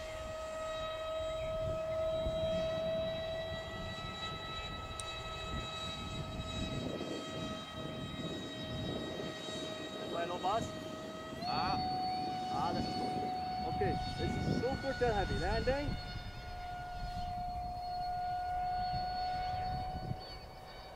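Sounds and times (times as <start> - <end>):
electric ducted fan whine: 0.0 - 20.9
low noisy rumble: 0.0 - 20.9.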